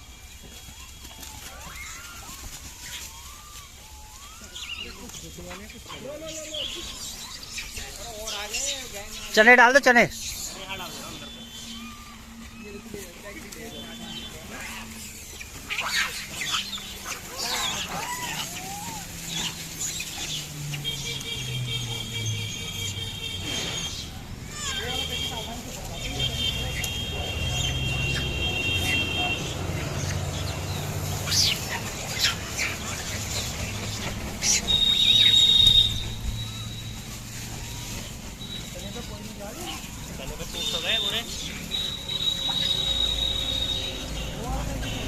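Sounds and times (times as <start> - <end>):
chirping and squealing animal calls: 0.0 - 45.0.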